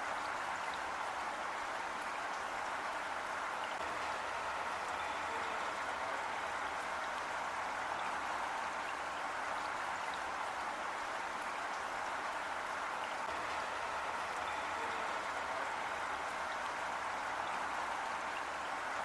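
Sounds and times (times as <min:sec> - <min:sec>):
heavy rain falling: 0:02.9 - 0:19.0.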